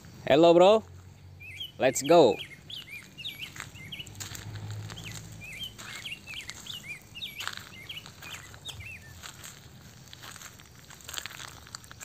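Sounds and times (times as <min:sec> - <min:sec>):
small birds chirping: 0:00.0 - 0:12.0
footsteps on gravel: 0:02.1 - 0:12.0.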